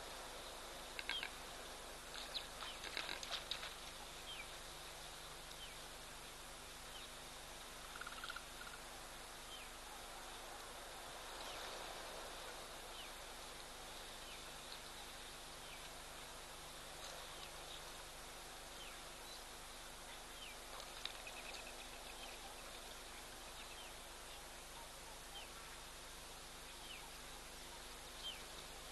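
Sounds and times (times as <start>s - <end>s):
outdoor background hiss: 0.0s - 28.9s.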